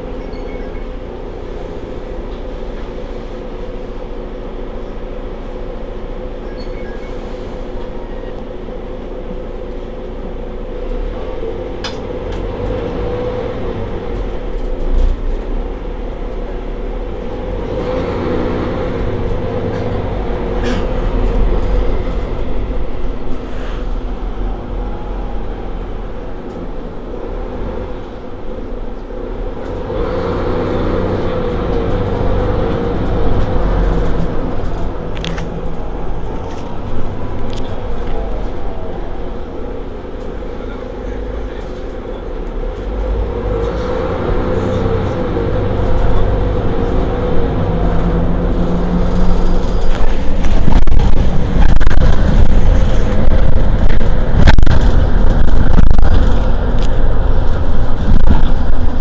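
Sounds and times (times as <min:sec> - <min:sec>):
diesel bus idling: 0:00.0 - 0:59.0.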